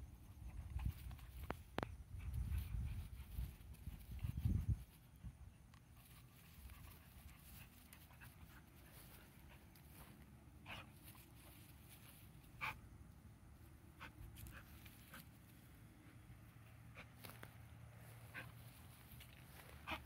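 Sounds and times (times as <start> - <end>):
faint dog sounds: 0.3 - 20.0.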